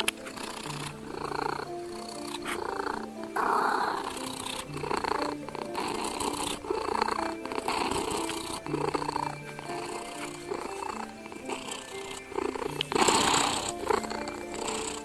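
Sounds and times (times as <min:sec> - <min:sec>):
cat purring: 0:00.0 - 0:15.0
soft background music: 0:00.0 - 0:15.0.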